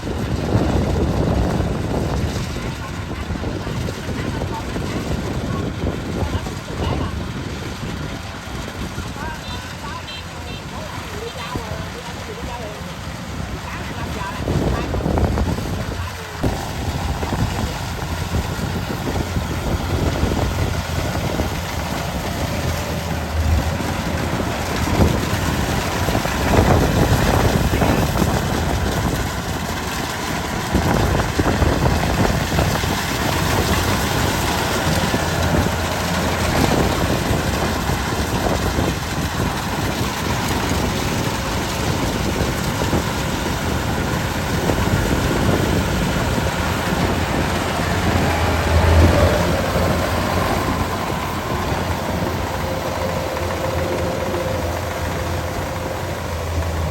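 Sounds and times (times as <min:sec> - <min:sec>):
combine harvester engine running: 0:00.0 - 0:56.9.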